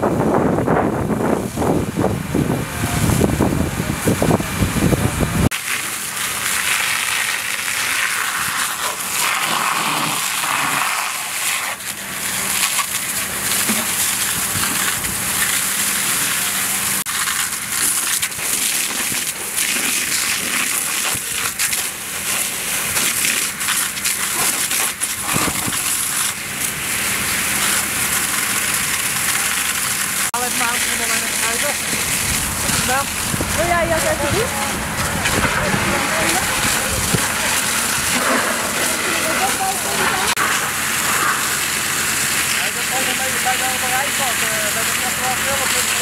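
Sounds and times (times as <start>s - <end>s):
water jets hissing: 2.9s - 46.0s
crackles on hot metal: 5.5s - 46.0s.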